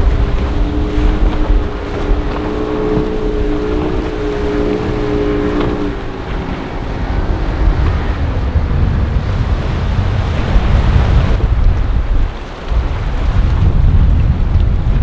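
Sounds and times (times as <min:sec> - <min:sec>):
motorboat engines droning: 0:00.0 - 0:13.4
surf washing: 0:00.0 - 0:15.0
wind buffeting the microphone: 0:00.0 - 0:15.0.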